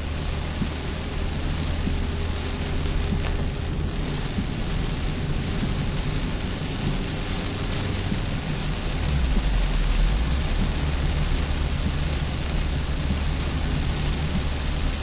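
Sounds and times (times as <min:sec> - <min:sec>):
rain hitting a car: 0:00.0 - 0:15.0
road and engine rumble: 0:00.0 - 0:15.0.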